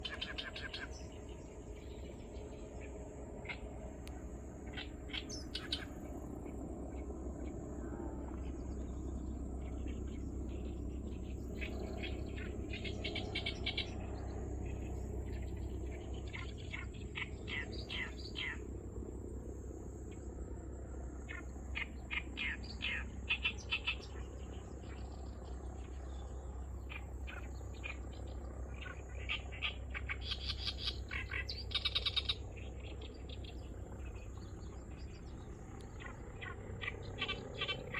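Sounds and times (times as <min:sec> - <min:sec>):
reed warbler singing: 0:00.0 - 0:07.1, 0:08.3 - 0:37.9
steady low hum: 0:00.0 - 0:37.9.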